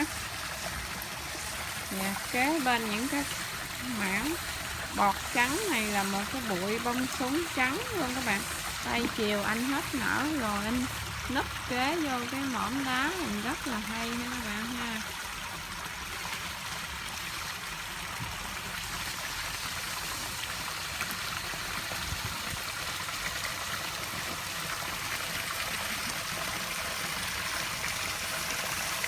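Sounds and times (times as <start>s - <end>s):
water splashing over rocks: 0.0s - 29.0s.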